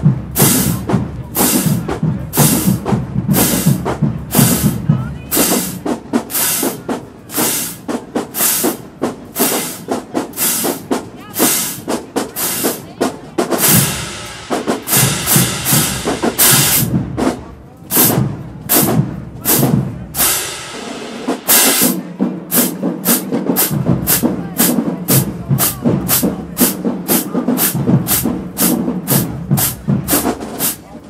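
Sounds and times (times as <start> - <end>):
marching drumline cadence: 0.0 - 31.0.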